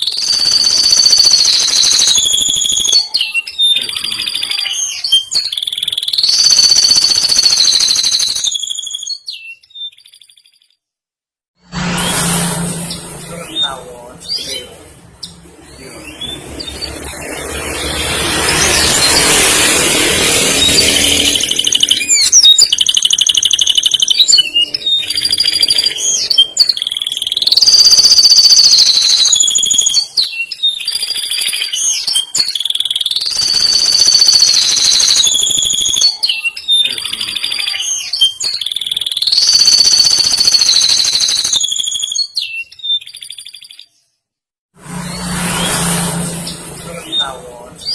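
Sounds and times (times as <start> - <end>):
canary singing: 0.0 - 10.7, 12.8 - 44.2, 45.1 - 47.9.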